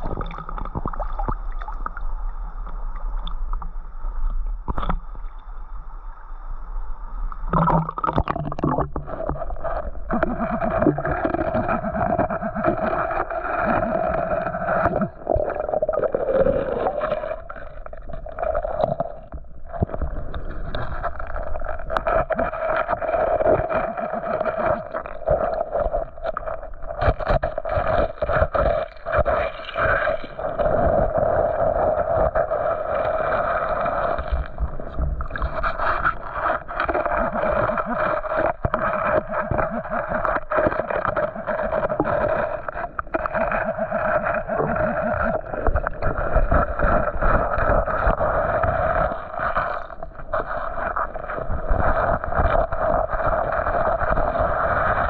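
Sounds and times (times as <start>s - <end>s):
water sloshing and gurgling: 0.0s - 5.9s, 7.2s - 55.0s.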